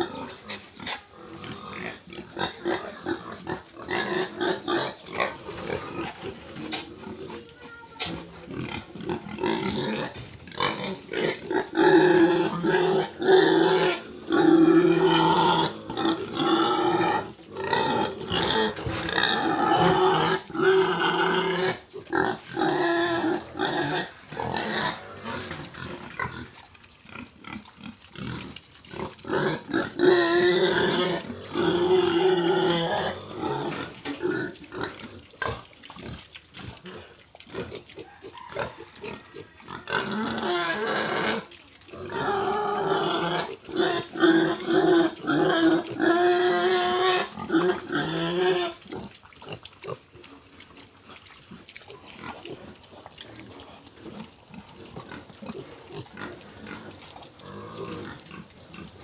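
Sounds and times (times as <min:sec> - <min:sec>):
pigs calling: 0:00.0 - 0:59.0.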